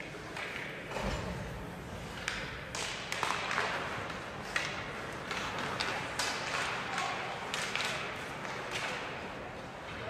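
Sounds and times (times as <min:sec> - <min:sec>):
hockey sticks and puck clacking: 0:00.0 - 0:00.9, 0:01.9 - 0:10.0.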